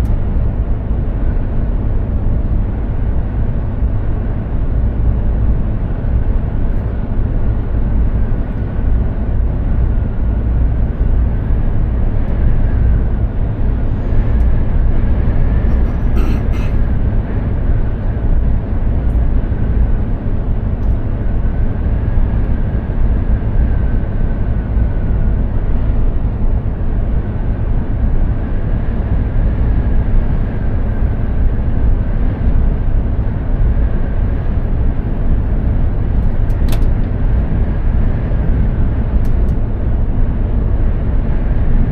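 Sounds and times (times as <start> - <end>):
diesel truck engine: 0.0 - 41.9
road rumble: 0.0 - 41.9.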